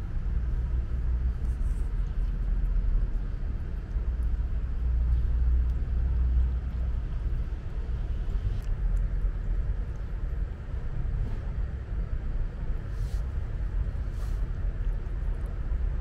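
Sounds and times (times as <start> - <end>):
low rumble: 0.0 - 16.0
cat chewing food: 0.5 - 16.0.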